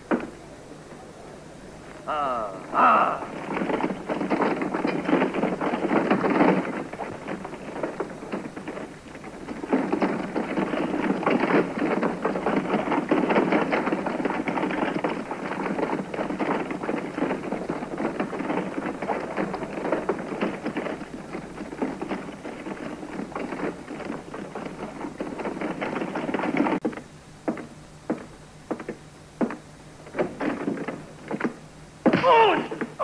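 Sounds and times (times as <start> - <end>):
wooden wheels rattling: 0.0 - 0.7, 1.7 - 33.0
hooves clopping: 0.0 - 33.0.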